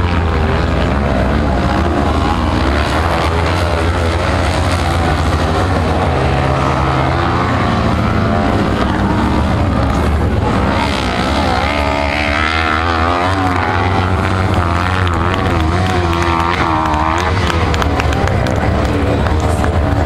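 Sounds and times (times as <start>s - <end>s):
small racing engines revving: 0.0s - 20.0s.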